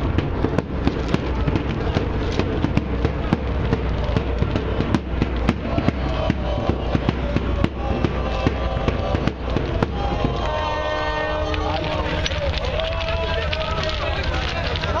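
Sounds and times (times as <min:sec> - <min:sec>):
crowd noise: 0:00.0 - 0:15.0
firecrackers going off: 0:00.0 - 0:15.0.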